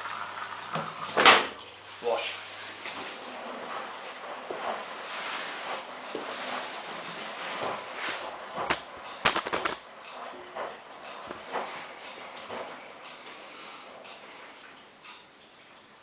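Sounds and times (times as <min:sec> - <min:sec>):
water trickling into washing machine: 0:00.0 - 0:16.0.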